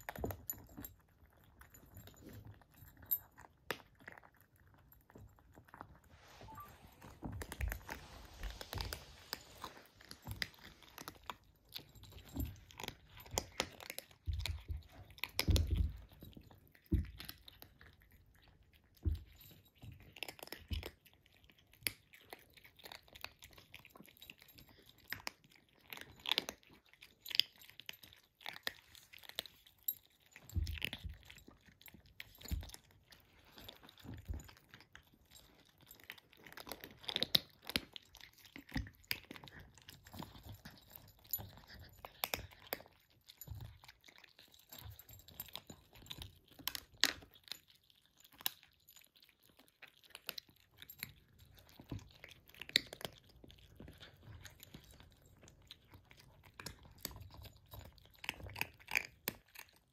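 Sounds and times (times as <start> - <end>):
kittens crunching dry food: 0.0 - 59.9.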